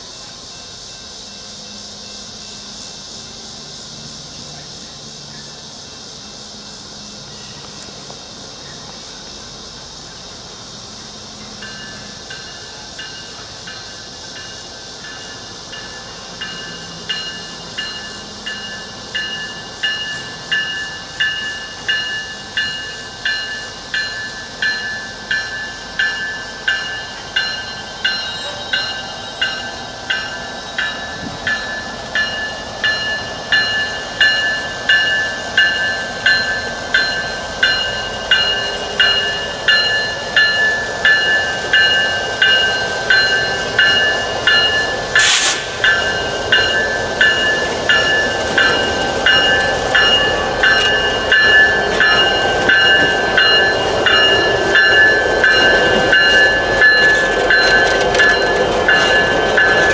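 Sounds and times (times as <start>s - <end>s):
locomotive bell ringing: 0.0s - 9.0s, 11.3s - 59.9s
train engines and wheels rumbling: 0.0s - 59.9s.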